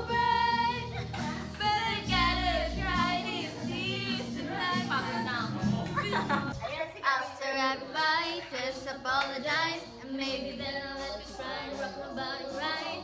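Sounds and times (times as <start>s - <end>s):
woman singing into microphone: 0.0s - 6.5s, 7.3s - 13.0s.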